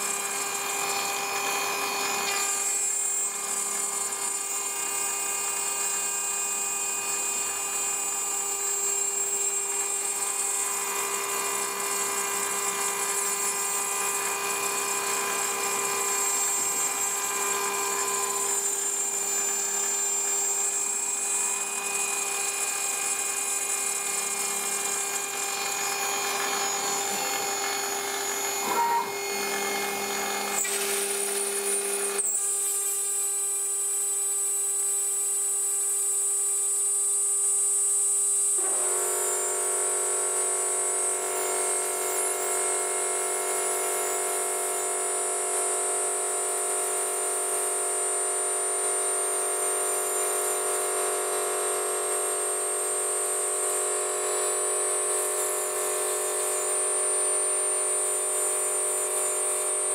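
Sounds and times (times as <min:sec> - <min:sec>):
cnc spindle whining while cutting: 0:00.0 - 0:59.9.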